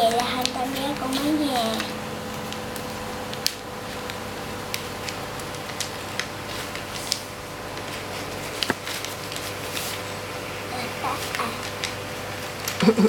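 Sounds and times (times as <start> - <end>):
paper crinkling and tapping: 0.0 - 10.2, 10.9 - 12.8
low electrical hum: 0.0 - 13.0.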